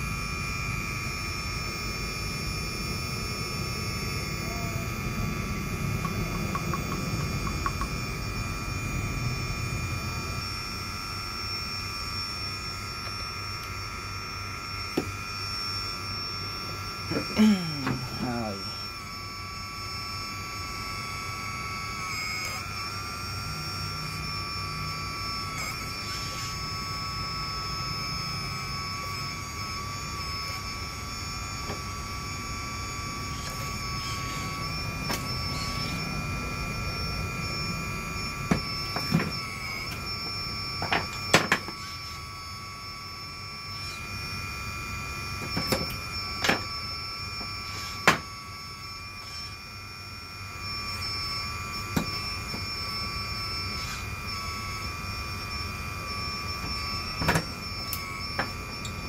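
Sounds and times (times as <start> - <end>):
hydraulic pump whine: 0.0 - 59.0.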